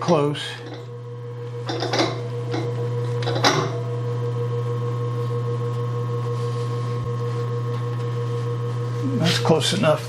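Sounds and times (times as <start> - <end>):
surface grinder humming: 0.0 - 10.0.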